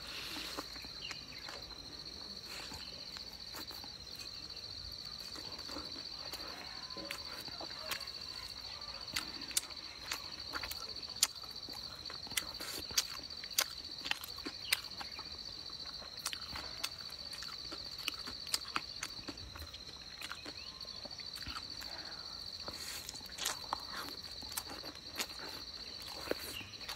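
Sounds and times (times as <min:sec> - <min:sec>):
high insect trill: 0:00.0 - 0:26.9
wet chewing and lip-smacking: 0:00.2 - 0:26.9.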